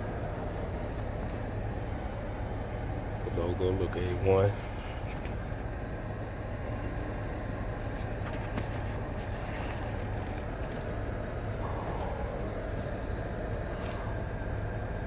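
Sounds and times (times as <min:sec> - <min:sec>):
car cabin hum and hiss: 0:00.0 - 0:15.0.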